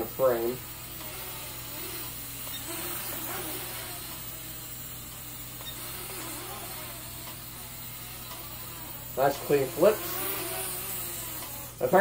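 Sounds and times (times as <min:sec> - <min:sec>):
quadcopter motors buzzing: 0:00.0 - 0:12.0.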